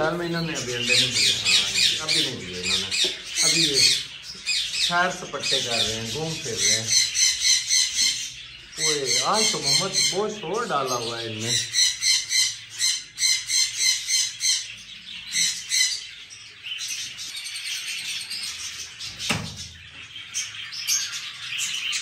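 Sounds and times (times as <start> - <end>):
parrots chattering: 0.0 - 22.0
parrots squawking: 0.0 - 22.0.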